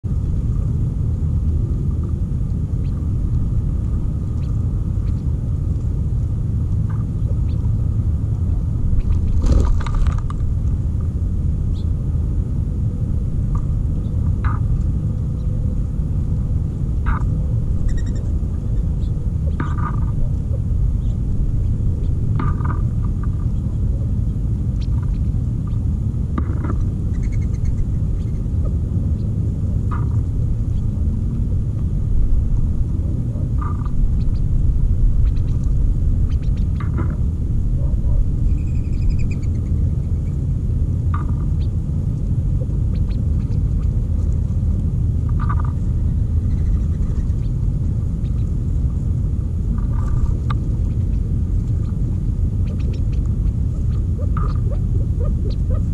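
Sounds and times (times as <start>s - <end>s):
steady low rumble: 0.0s - 55.9s.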